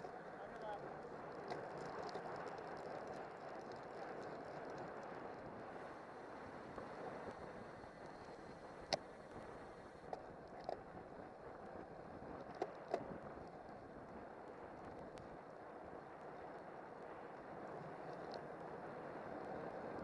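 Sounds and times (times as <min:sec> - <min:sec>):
bicycle wind and tyre noise: 0:00.0 - 0:20.0.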